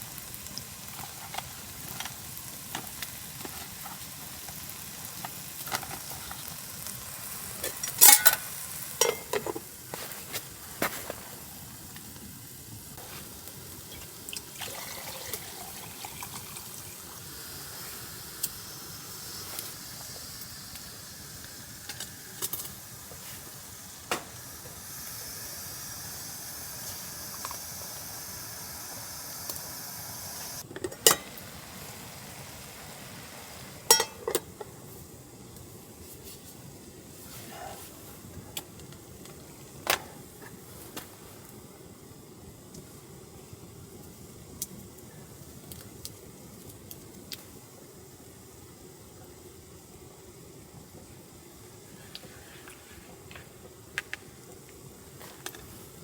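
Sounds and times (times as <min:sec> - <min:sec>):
cooking sizzling: 0:00.0 - 0:56.0.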